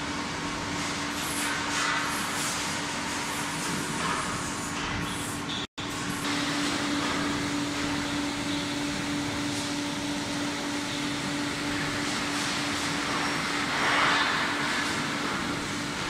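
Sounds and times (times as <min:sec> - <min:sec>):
industrial machinery humming: 0:02.8 - 0:16.0.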